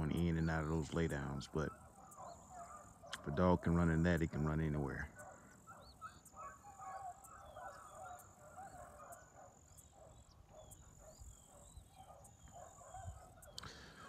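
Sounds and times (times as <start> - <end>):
beagles baying: 0.0 - 14.0.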